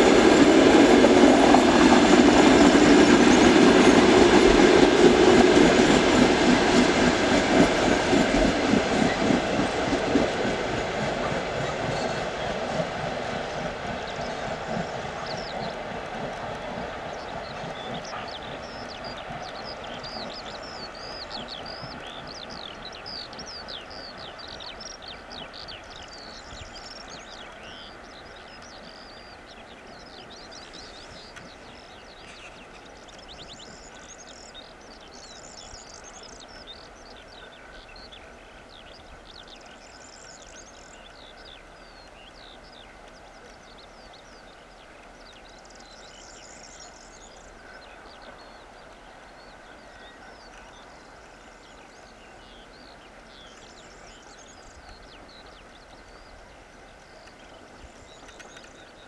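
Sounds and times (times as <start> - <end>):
distant train rumble: 0.0 - 59.0.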